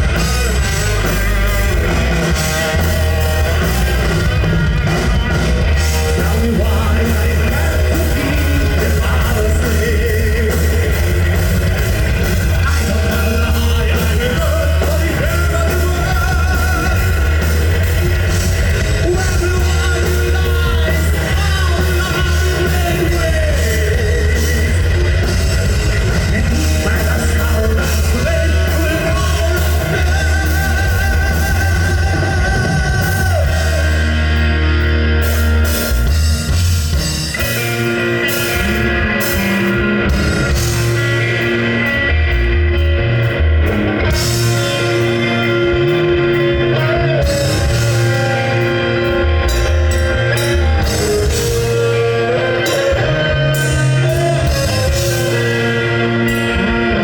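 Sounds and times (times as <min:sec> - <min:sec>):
person singing: 0:00.0 - 0:34.5, 0:43.9 - 0:57.0
bass guitar: 0:00.0 - 0:57.0
distorted electric guitars: 0:00.0 - 0:57.0
drum kit: 0:00.0 - 0:57.0.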